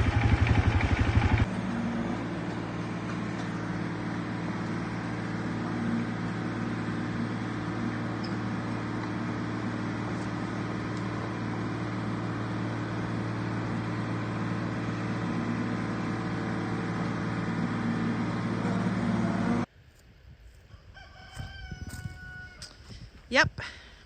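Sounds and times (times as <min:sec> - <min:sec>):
engine humming: 0:00.0 - 0:19.7.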